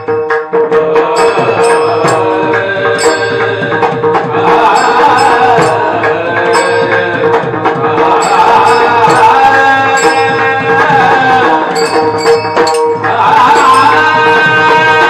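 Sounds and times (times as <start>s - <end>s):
hand drum strikes: 0.0s - 15.0s
held drone note: 0.0s - 15.0s.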